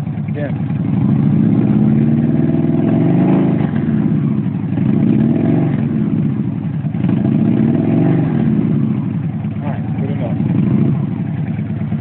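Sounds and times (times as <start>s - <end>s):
engine exhaust idling and revving: 0.0s - 12.0s.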